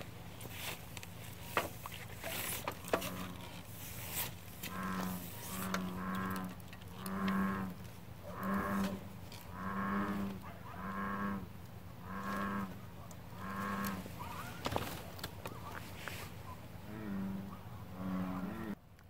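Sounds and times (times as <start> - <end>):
bullfrog croaking: 2.2 - 18.8.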